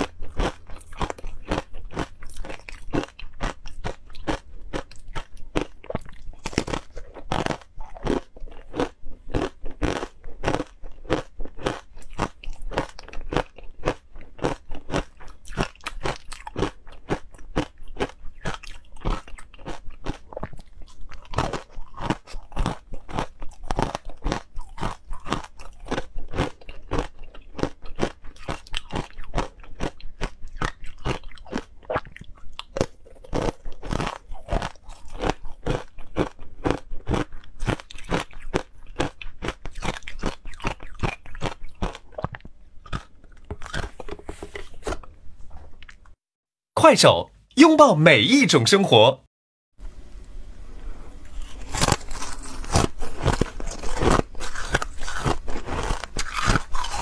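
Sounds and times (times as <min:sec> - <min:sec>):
crunching and chewing ice: 0:00.0 - 0:46.2, 0:51.2 - 0:57.0.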